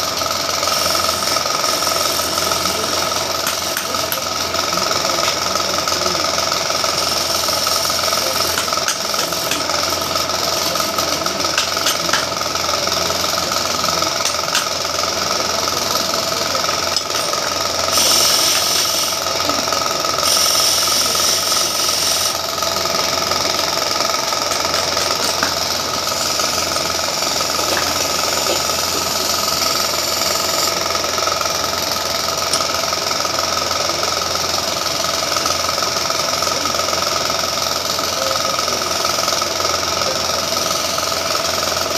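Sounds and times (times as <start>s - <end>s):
chisel cutting spinning wood: 0.0s - 41.9s
lathe motor hum: 0.0s - 41.9s.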